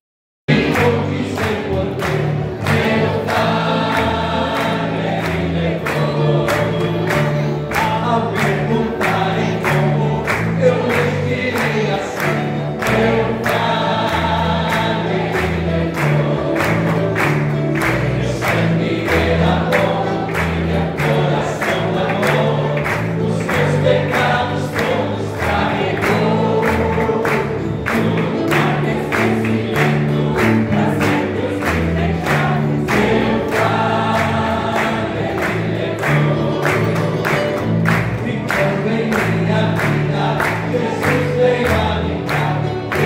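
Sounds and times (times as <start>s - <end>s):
gospel choir singing: 0.5s - 43.0s.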